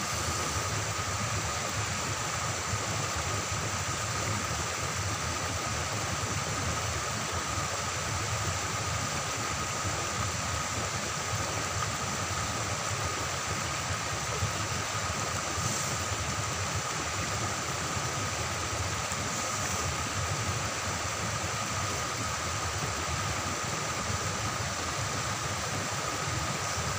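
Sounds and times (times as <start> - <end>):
water rushing over rocks: 0.0 - 26.9.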